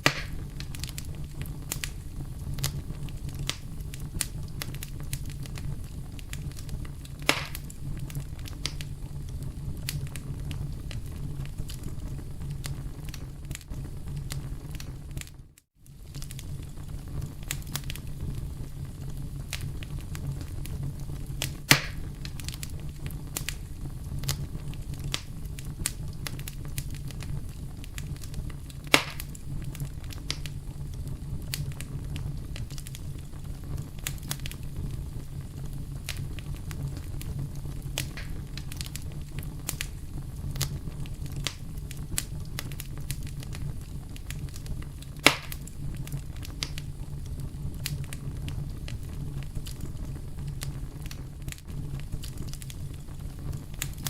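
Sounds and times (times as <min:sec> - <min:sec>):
campfire crackling: 0:00.0 - 0:54.0
loud fire pops: 0:00.0 - 0:54.0.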